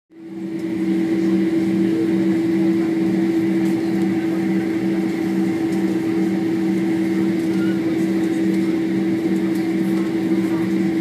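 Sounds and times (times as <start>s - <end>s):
aircraft cabin engine hum: 0.1s - 11.0s.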